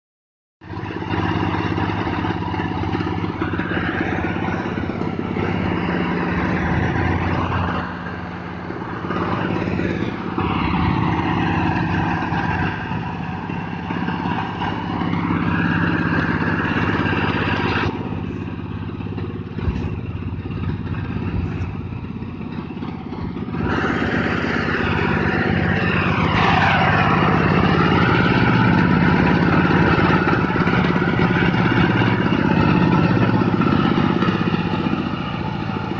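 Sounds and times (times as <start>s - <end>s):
small tractor engine running: 0.6s - 35.9s.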